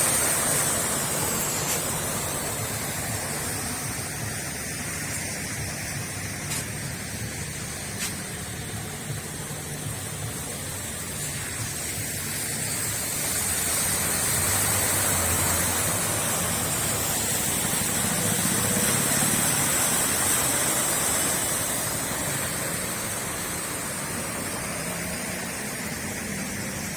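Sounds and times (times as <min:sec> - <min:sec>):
steady rain: 0:00.0 - 0:26.9
tyres hissing on wet road: 0:00.0 - 0:26.9.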